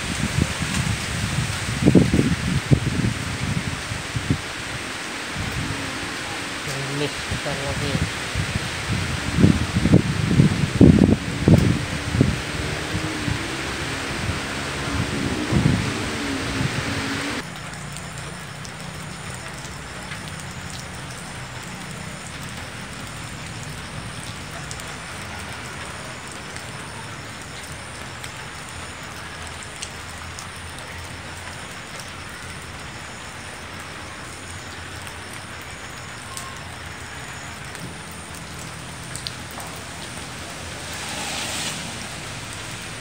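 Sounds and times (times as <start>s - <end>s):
light rain: 0.0s - 43.0s.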